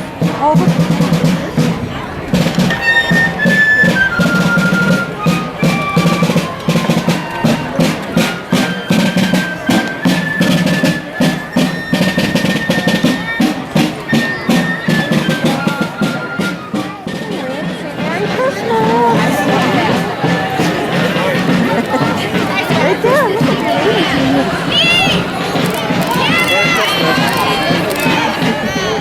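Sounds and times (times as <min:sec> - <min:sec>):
parade band playing: 0:00.0 - 0:29.0.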